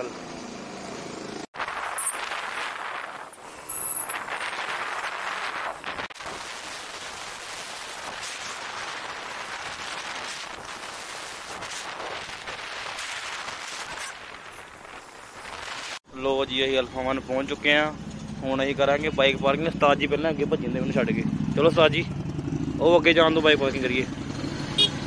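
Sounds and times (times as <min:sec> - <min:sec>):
wind and road noise on microphone: 0:00.0 - 0:25.0.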